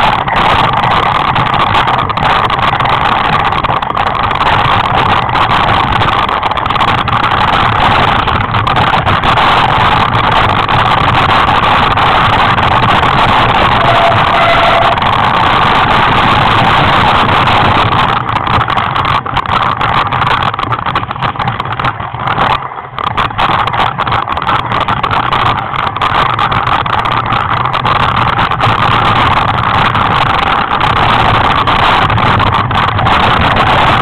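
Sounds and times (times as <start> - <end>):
heavy wind buffeting microphone: 0.0 - 34.0.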